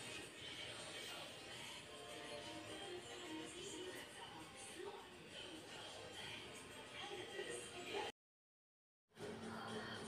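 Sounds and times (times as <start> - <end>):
quiet background music: 0.0 - 8.2, 9.1 - 10.0.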